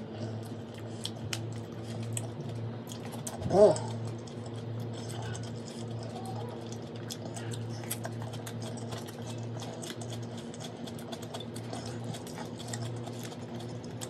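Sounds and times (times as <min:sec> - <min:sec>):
low electrical hum: 0:00.0 - 0:14.0
person chewing with wet mouth clicks: 0:00.4 - 0:14.0.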